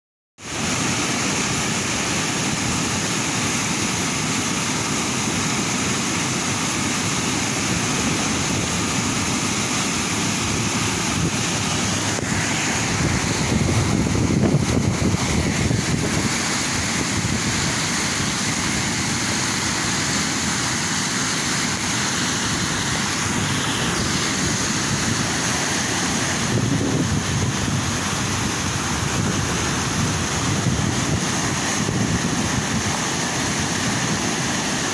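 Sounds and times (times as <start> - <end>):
floodwater rushing over spillway: 0.4 - 34.9.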